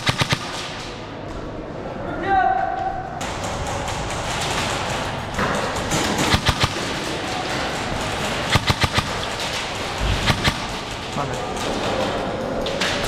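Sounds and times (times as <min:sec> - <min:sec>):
airsoft guns firing: 0:00.0 - 0:01.2, 0:03.2 - 0:13.0
steady background noise: 0:00.0 - 0:13.0.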